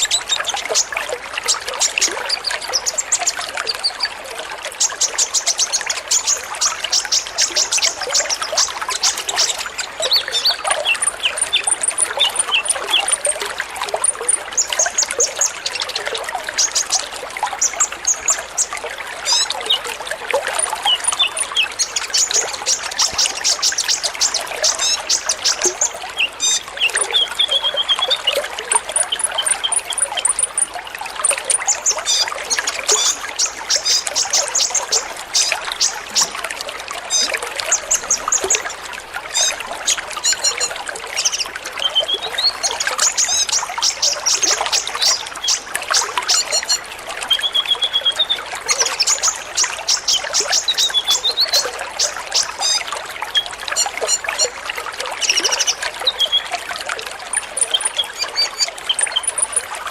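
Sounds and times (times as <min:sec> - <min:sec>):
water trickling: 0:00.0 - 0:59.9
birds chirping and trilling: 0:04.8 - 0:13.3, 0:14.0 - 0:19.9, 0:20.6 - 0:54.6, 0:55.2 - 0:56.4, 0:57.3 - 0:59.7.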